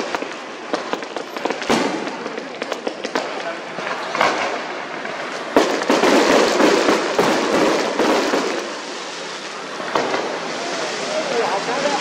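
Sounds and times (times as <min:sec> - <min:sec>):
firework bangs: 0:00.0 - 0:12.0
firework crackling: 0:00.0 - 0:12.0.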